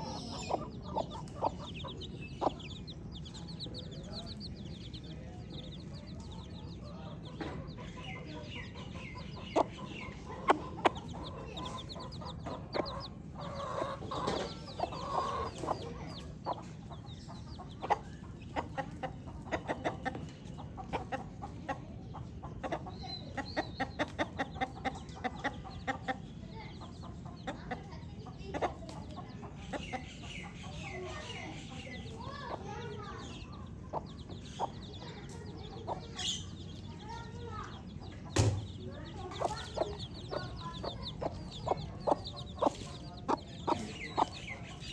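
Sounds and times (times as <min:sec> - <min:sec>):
baby chicks peeping: 0:00.0 - 0:44.9
chicken clucking: 0:00.0 - 0:44.9.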